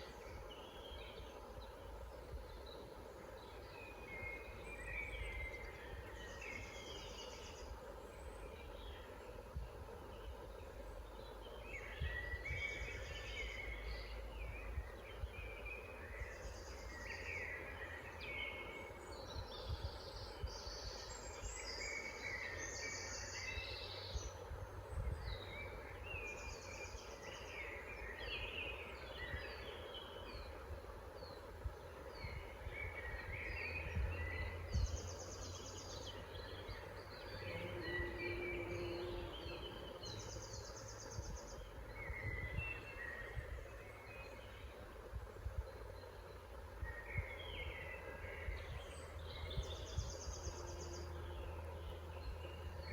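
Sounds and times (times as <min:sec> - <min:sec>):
woodland birds singing: 0:00.0 - 0:52.9.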